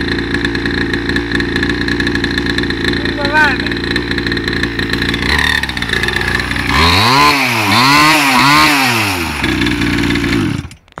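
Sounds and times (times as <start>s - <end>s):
mini moto engine revving: 0.0s - 11.0s.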